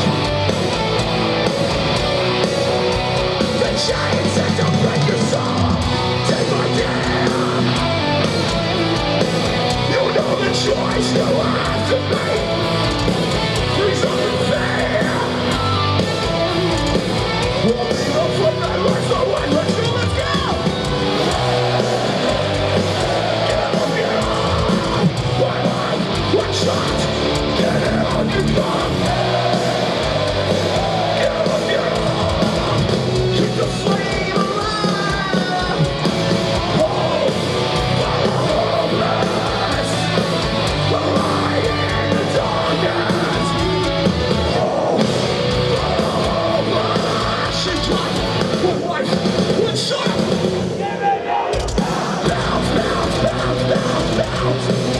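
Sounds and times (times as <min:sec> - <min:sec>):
metal band playing live: 0:00.0 - 0:54.9
shouted vocals: 0:00.0 - 0:54.9.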